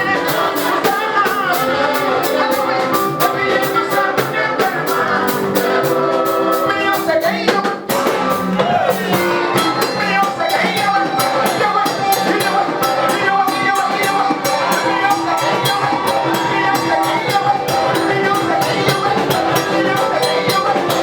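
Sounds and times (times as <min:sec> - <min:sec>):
gospel band playing: 0:00.0 - 0:21.0
people singing: 0:00.0 - 0:21.0.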